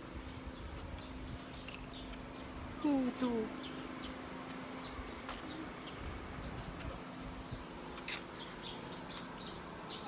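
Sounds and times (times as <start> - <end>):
faint outdoor hiss: 0.0 - 10.0
small birds chirping: 0.0 - 10.0.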